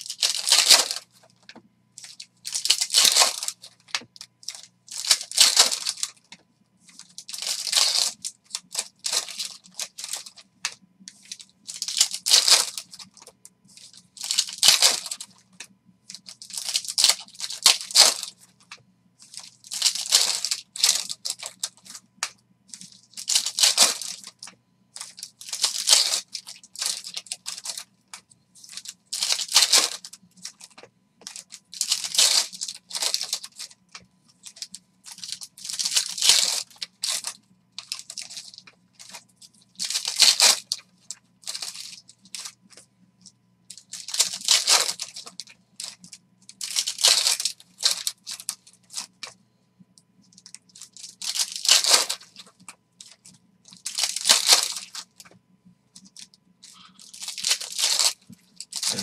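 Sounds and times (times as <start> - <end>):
foil wrappers tearing and crinkling: 0.0 - 1.4, 2.0 - 6.3, 6.9 - 27.9, 28.6 - 42.6, 43.7 - 49.3, 50.3 - 55.4, 56.0 - 59.0.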